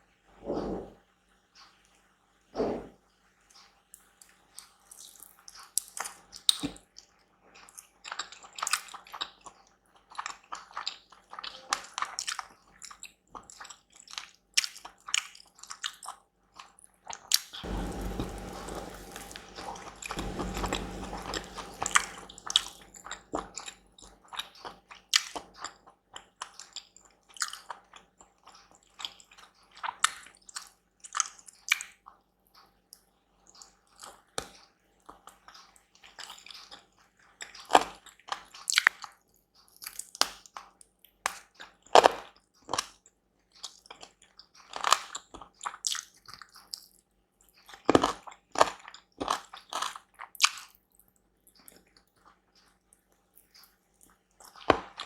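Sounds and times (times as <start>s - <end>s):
close-miked eating and chewing: 3.5s - 55.0s.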